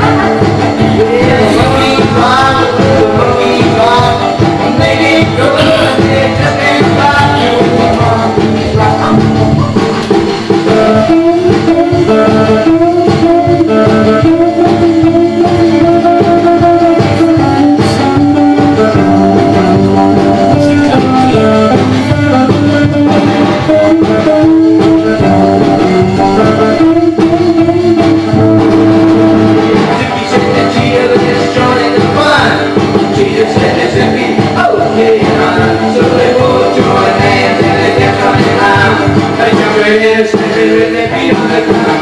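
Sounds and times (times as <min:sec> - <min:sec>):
electric guitar: 0:00.0 - 0:42.0
rockabilly record playing: 0:00.0 - 0:42.0.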